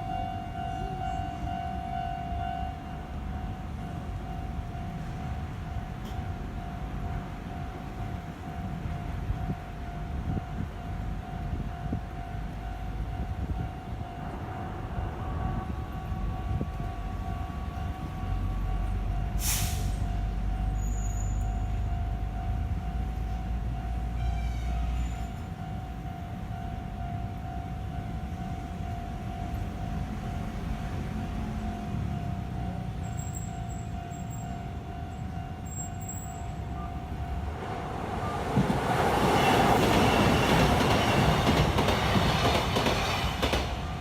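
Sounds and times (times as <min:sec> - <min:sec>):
level crossing warning alarm: 0:00.0 - 0:24.5, 0:25.2 - 0:42.6
electric train rumbling: 0:00.0 - 0:44.0.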